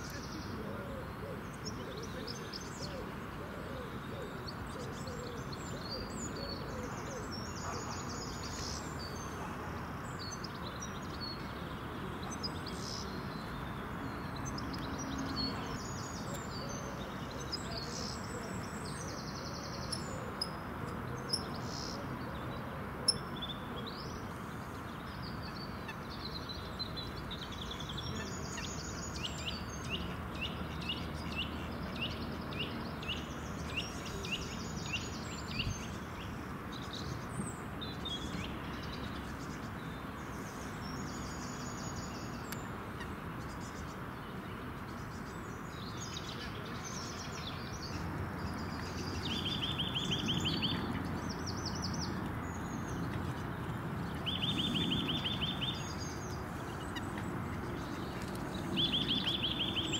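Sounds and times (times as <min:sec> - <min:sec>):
background noise: 0:00.0 - 0:59.9
songbirds chirping: 0:00.0 - 0:59.9.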